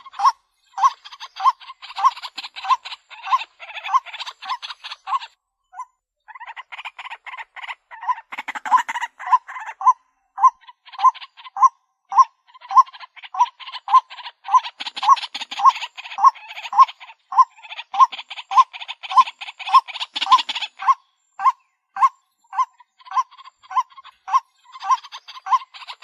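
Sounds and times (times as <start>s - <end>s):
bird repeated short calls: 0.0s - 26.0s.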